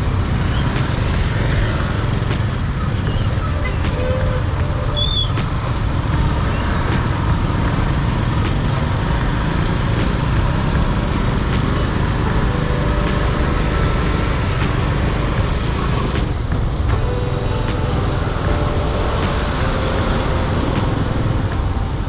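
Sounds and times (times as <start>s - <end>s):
passing vehicle engines and tyres: 0.0s - 22.0s.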